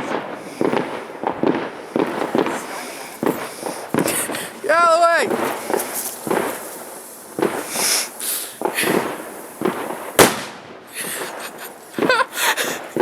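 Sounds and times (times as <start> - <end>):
firework bang: 0.0 - 13.0
soft bursts of noise: 0.0 - 13.0.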